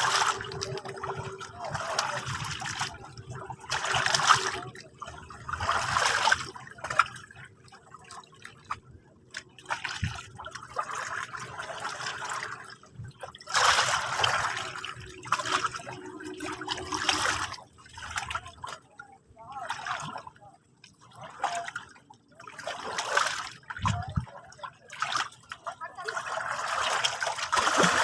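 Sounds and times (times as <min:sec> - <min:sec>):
waves lapping at the shore: 0:00.0 - 0:28.0.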